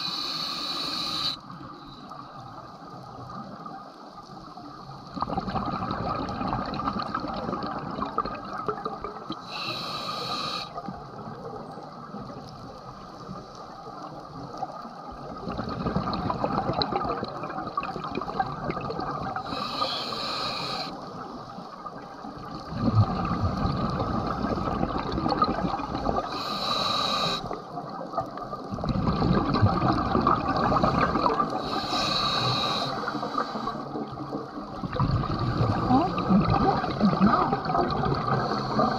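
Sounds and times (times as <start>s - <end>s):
exhaled bubbles hissing: 0.0s - 3.7s, 4.4s - 12.4s, 13.2s - 38.9s
underwater water noise: 0.0s - 38.9s.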